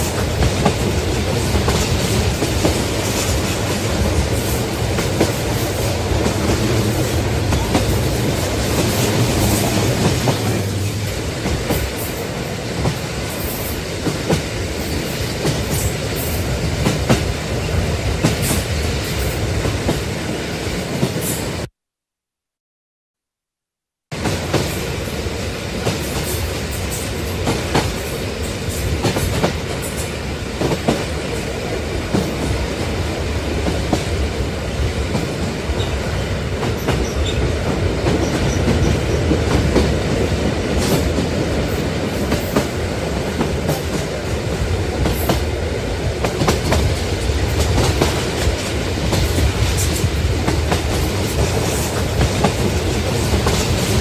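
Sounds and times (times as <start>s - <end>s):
train wheels rumbling: 0.0s - 21.7s, 24.1s - 54.0s.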